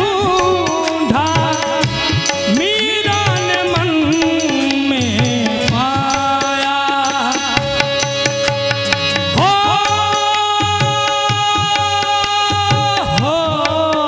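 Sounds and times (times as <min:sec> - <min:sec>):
instrumental accompaniment: 0:00.0 - 0:14.0
man singing devotional song: 0:00.0 - 0:14.0
regular drum beats: 0:00.0 - 0:14.0.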